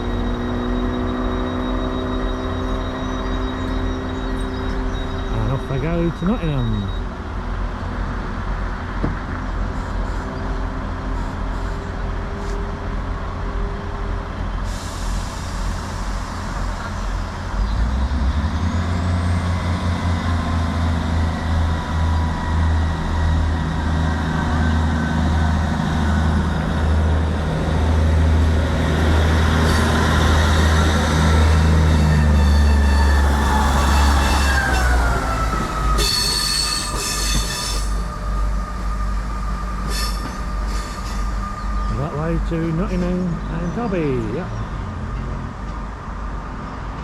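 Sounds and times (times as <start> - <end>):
train diesel engines running: 0.0 - 47.0.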